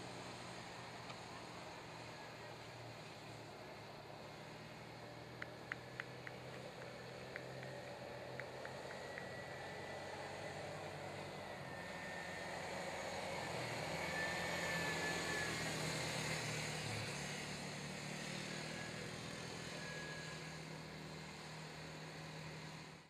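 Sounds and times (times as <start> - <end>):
atv engines buzzing: 0.0 - 23.0.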